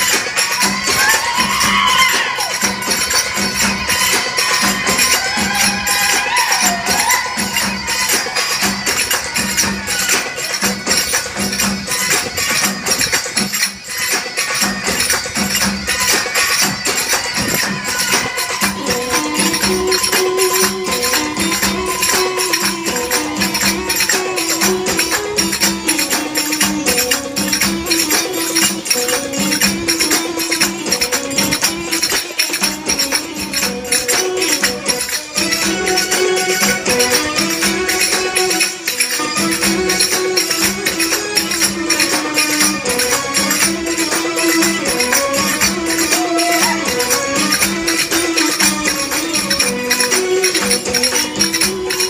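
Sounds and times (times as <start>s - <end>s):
belly dance music: 0.0s - 52.0s
jingling metallic percussion: 0.0s - 52.0s.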